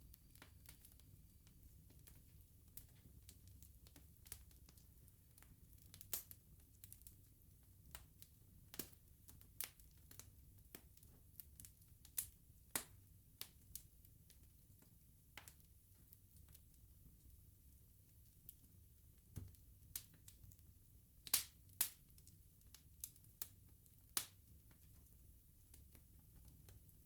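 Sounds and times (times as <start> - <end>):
bonfire crackling and popping: 0.1 - 27.0.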